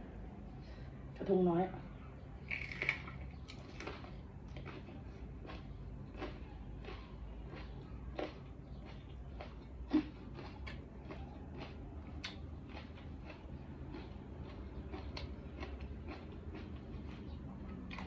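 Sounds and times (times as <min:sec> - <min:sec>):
low steady hum: 0:00.0 - 0:18.0
person chewing: 0:02.5 - 0:18.0.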